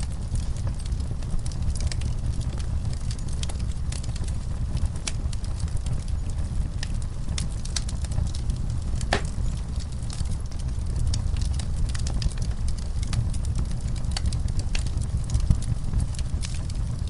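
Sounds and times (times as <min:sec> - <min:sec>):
fire rumbling in fireplace: 0:00.0 - 0:17.0
logs crackling and popping: 0:00.0 - 0:17.0.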